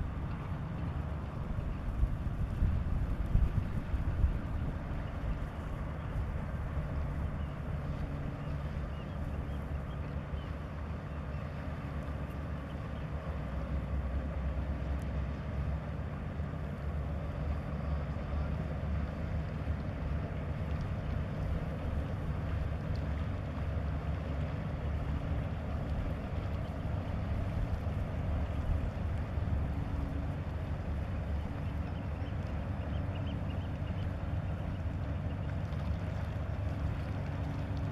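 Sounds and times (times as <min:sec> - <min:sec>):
boat engines droning: 0:00.0 - 0:37.9.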